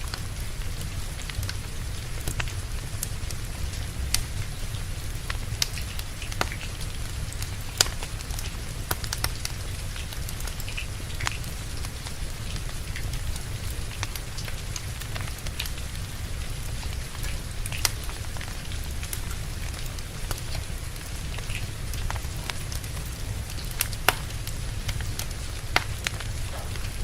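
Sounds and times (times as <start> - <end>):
steady rain: 0.0 - 27.0
wood fire crackling and popping: 0.0 - 27.0.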